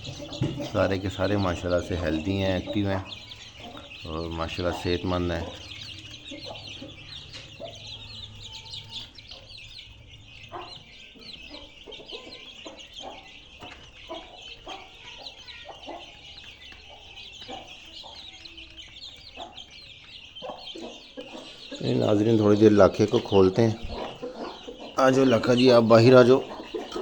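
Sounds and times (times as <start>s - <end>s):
chickens clucking: 0.0s - 27.0s
chicks peeping: 0.0s - 27.0s.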